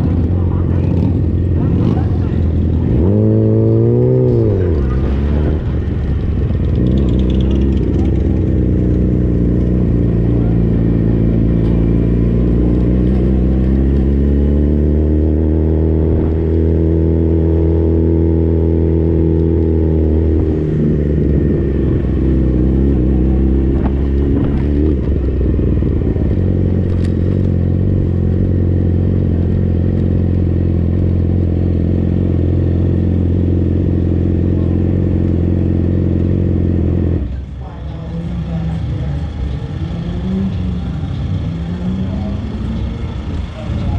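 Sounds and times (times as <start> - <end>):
motorcycle engine at low revs: 0.0 - 43.9.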